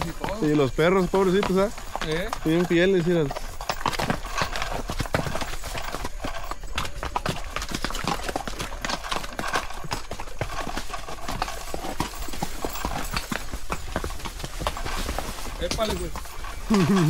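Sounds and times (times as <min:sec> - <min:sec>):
horse hooves clopping on stones: 0:00.0 - 0:17.0.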